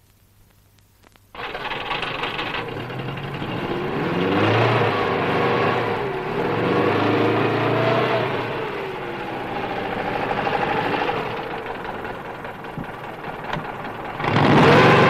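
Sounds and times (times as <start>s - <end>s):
car engine revving: 1.4s - 15.0s.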